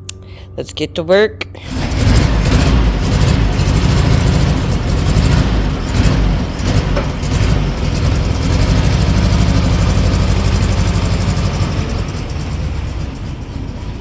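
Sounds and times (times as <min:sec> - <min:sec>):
car engine running: 0:01.6 - 0:14.0.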